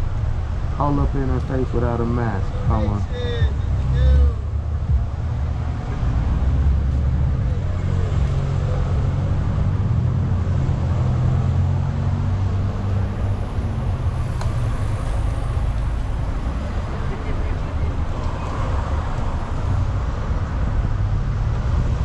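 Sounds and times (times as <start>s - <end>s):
motor vehicles rumbling: 0.0s - 22.0s
street traffic: 0.0s - 22.0s.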